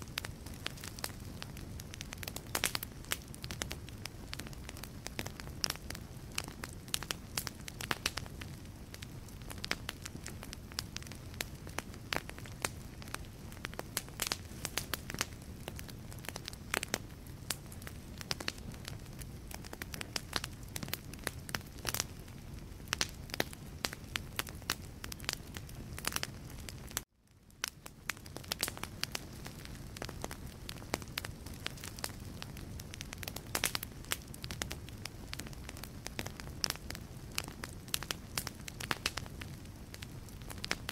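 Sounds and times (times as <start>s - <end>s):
wood fire crackling in fireplace: 0.0s - 40.9s.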